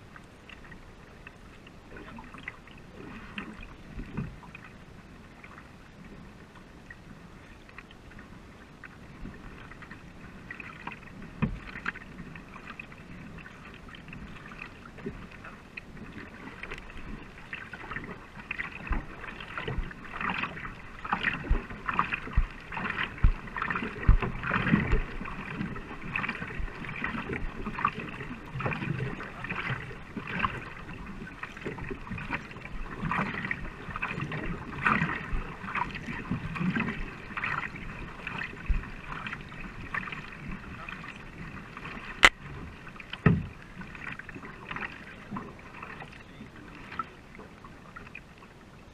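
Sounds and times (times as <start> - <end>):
paddles splashing in water: 0.0 - 48.9
water rushing along hull: 0.0 - 48.9.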